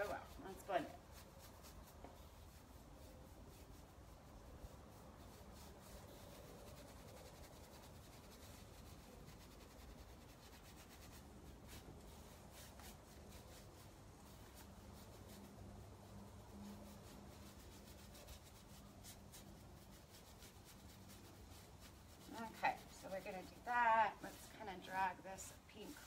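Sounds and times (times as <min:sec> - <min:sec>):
paintbrush stroking on wood: 0:00.0 - 0:26.0.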